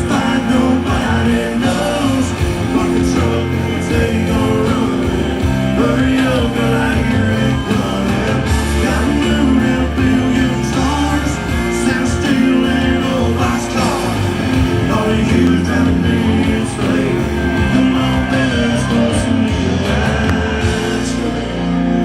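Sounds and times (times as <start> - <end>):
country-rock band playing live: 0.0 - 22.0.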